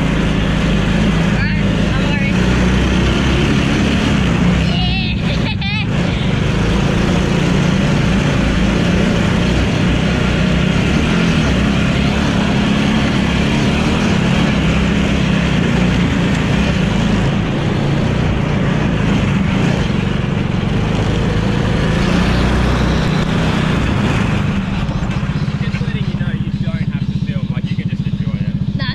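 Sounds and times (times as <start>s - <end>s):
small car engine running: 0.0s - 28.9s.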